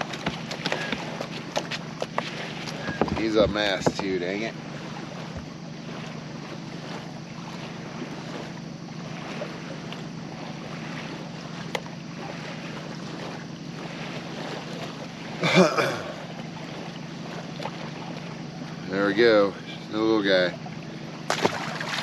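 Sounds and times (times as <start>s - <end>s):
river water: 0.0s - 22.0s
wind: 0.0s - 22.0s.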